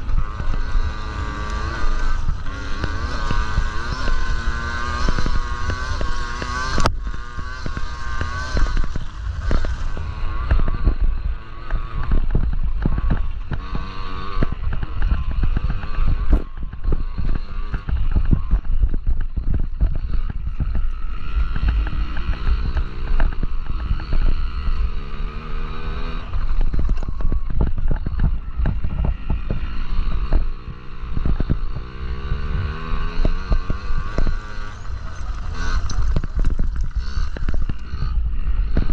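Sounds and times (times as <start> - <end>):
dirt bike engines revving: 0.0 - 38.9
wind on microphone: 0.0 - 38.9.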